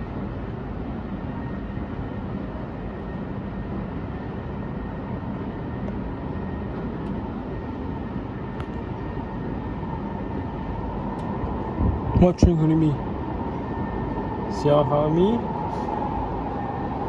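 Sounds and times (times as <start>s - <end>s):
subway train approaching: 0.0s - 17.0s.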